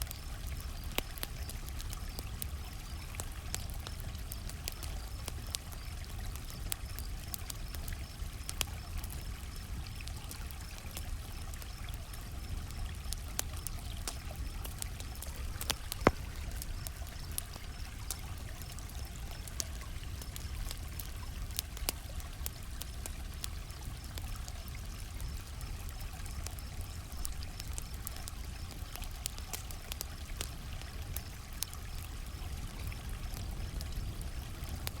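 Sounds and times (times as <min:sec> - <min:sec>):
campfire crackling and popping: 0:00.0 - 0:35.0
crickets chirping: 0:00.1 - 0:35.0.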